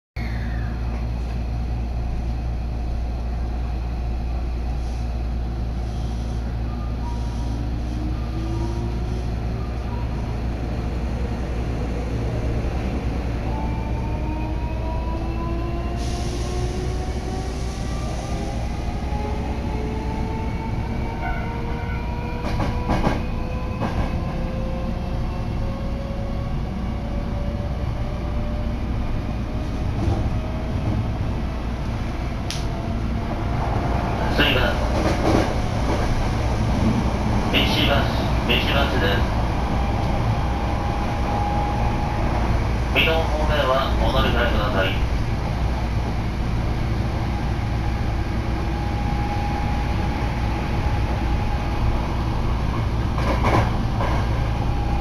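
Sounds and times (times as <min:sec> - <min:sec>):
train low rumble: 0:00.2 - 0:55.0.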